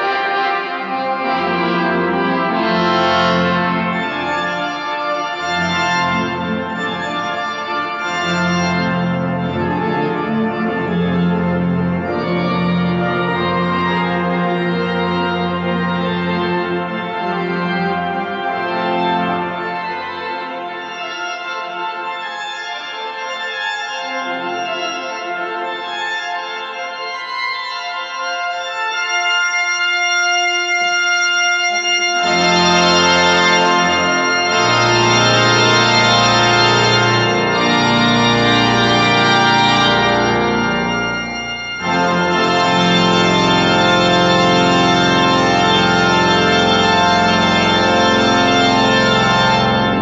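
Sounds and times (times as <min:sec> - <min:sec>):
deep organ pedal notes: 0:00.0 - 0:50.0
pipe organ sustained chords: 0:00.0 - 0:50.0.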